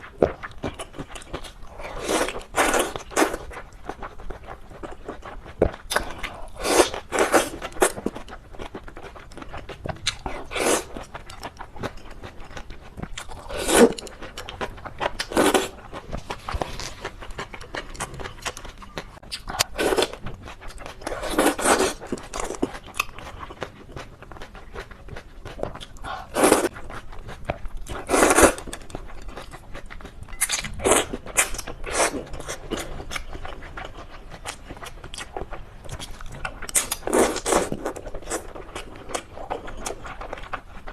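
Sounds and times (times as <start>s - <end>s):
chewing and mouth noises: 0.0s - 40.9s.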